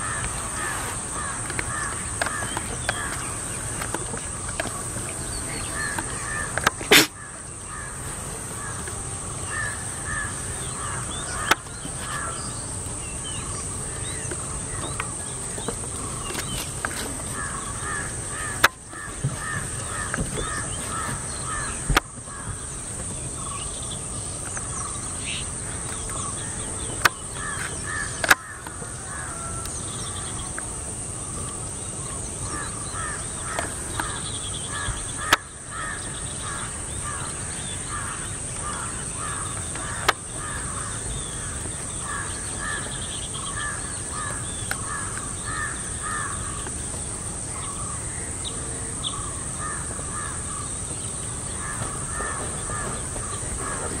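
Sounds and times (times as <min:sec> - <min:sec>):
birds calling: 0:00.0 - 0:54.0
steady high-pitched hiss: 0:00.0 - 0:54.0.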